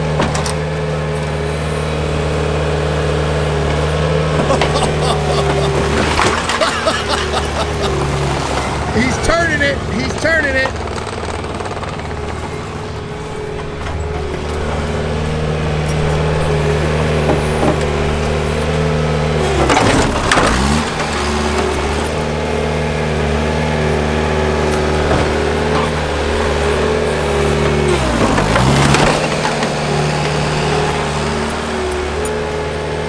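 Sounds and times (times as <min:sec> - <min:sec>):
bulldozer engine running: 0:00.0 - 0:33.0.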